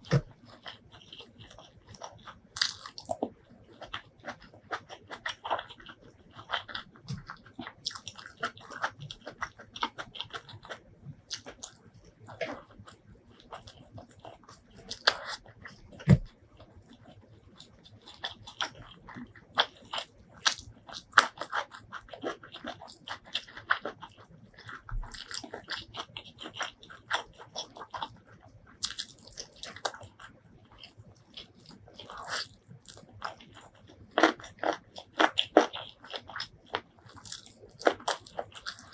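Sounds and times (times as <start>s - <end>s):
close chewing and mouth sounds: 0.0s - 38.9s.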